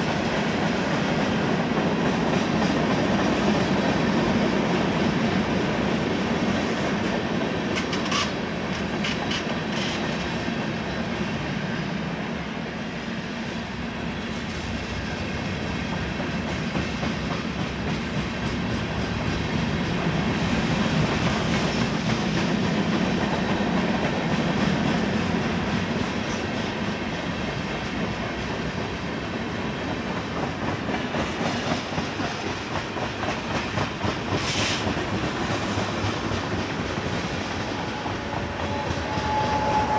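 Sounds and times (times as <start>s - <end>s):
freight train wheels clicking: 0.0s - 10.6s, 14.3s - 39.9s.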